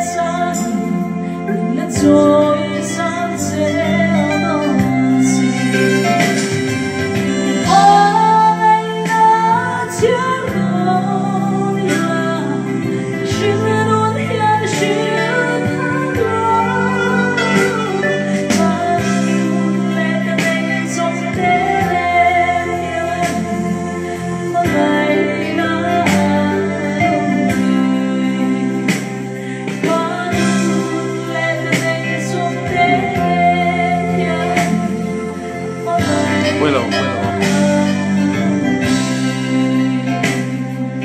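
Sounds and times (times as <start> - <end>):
instrumental backing music: 0.0 - 41.0
woman singing into a microphone: 0.0 - 41.0.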